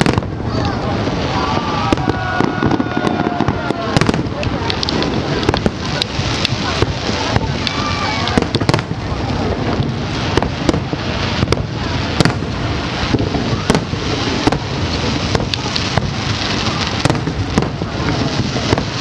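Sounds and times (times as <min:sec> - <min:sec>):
dense wash of firework noise: 0:00.0 - 0:19.0
fireworks bangs: 0:00.0 - 0:19.0.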